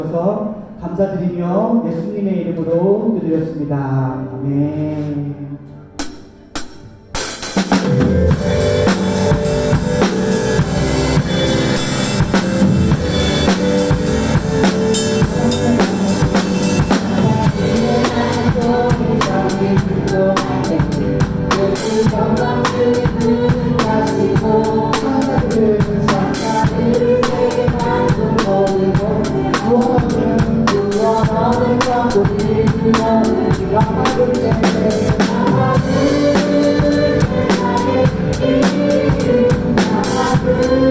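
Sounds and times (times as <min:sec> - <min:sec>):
worship song backing track: 0:00.0 - 0:40.9
drum kit playing: 0:06.0 - 0:40.9.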